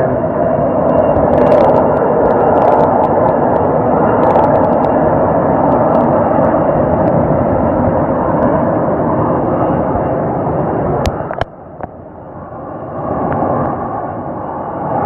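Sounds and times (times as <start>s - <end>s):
hurricane wind rushing: 0.0s - 15.0s.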